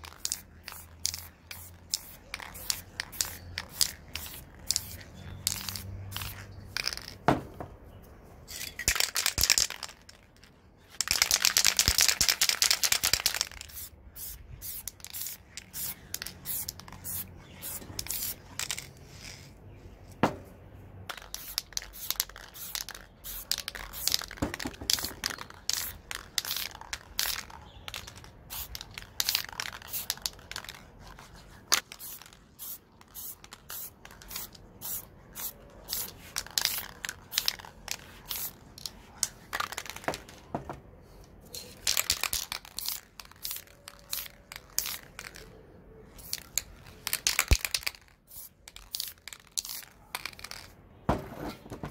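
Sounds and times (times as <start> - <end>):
spray paint can hissing: 0.0 - 7.2, 10.8 - 19.5, 21.1 - 40.2, 41.6 - 50.7.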